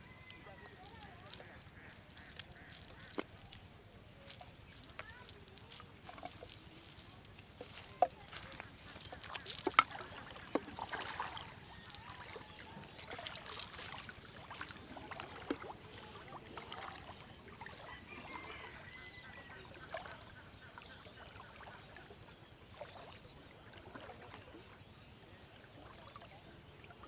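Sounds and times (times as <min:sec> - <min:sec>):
water sloshing and dripping: 0:00.0 - 0:24.6, 0:25.4 - 0:27.0.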